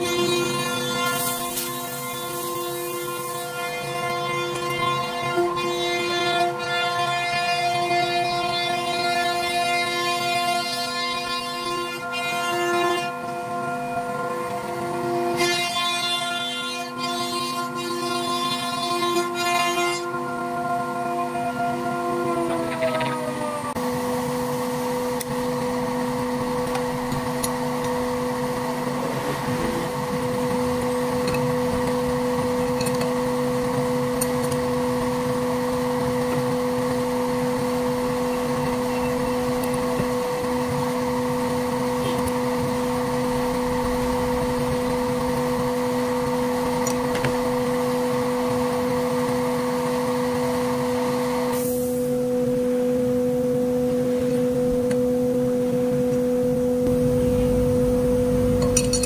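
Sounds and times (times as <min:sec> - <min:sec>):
electric motor hum: 0:00.0 - 0:59.0.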